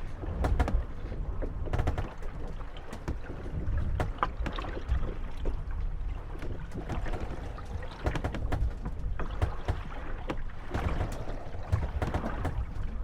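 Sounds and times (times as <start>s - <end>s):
low wind rumble: 0.0s - 13.0s
water sloshing: 0.0s - 13.0s
wooden boats knocking and creaking: 0.0s - 13.0s.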